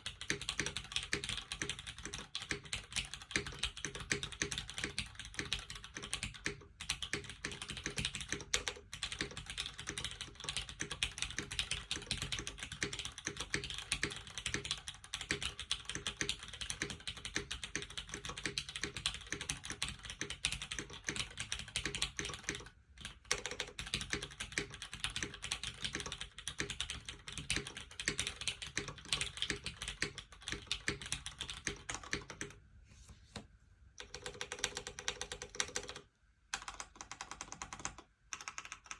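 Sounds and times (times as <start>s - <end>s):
typing on mechanical keyboard: 0.0s - 32.6s, 34.0s - 38.9s.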